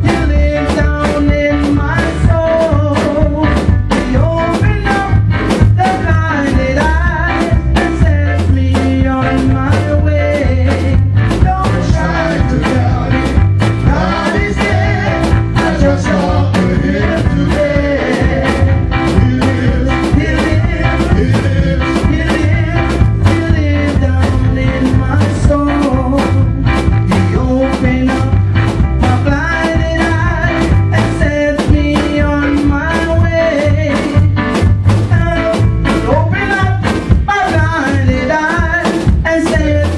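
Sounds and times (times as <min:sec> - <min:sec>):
upbeat gospel band music: 0:00.0 - 0:39.9.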